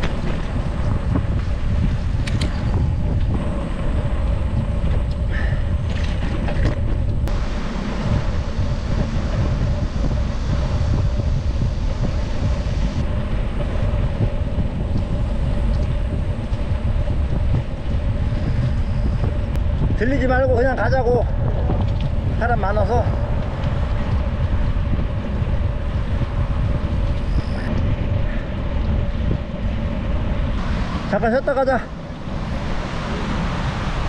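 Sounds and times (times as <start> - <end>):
bicycle rolling rumble: 0.0 - 34.0
wind on microphone: 0.0 - 34.0.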